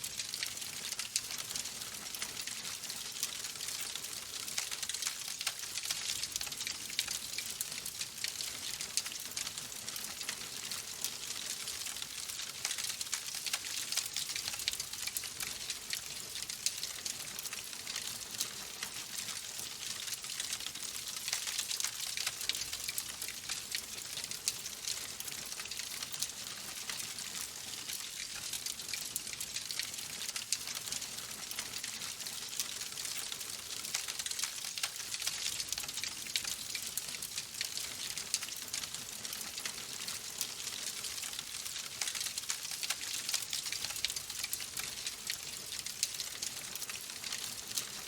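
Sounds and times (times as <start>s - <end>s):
logs burning and crackling: 0.2s - 47.9s.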